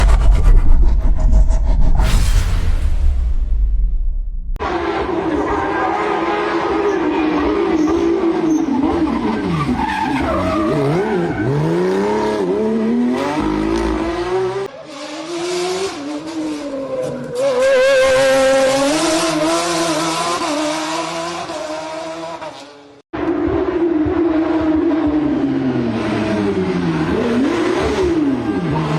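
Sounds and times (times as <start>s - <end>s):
rally car engines revving: 4.6s - 28.9s.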